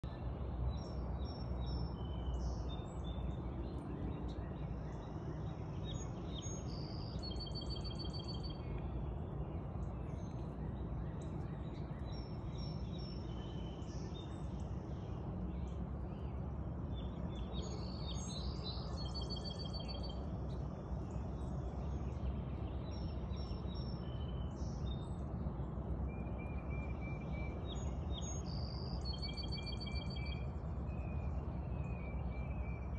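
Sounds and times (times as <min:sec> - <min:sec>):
low outdoor rumble: 0:00.0 - 0:32.9
songbirds singing and chirping: 0:00.0 - 0:32.9.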